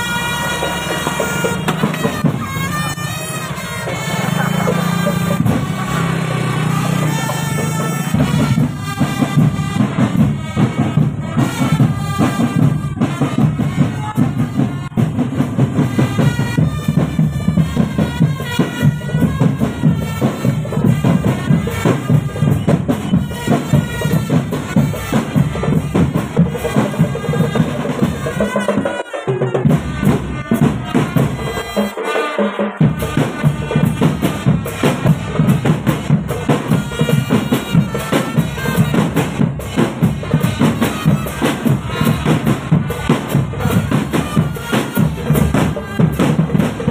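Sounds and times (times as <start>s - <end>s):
drums beating: 0.0s - 46.9s
wind instruments melody: 0.0s - 46.9s.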